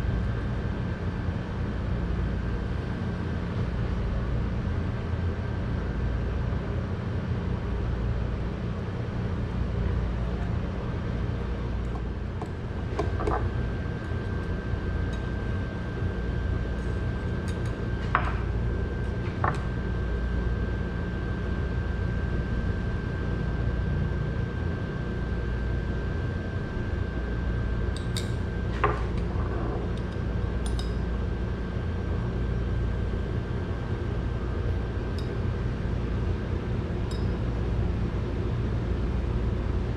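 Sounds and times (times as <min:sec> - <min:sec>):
low kitchen hum: 0:00.0 - 0:39.9.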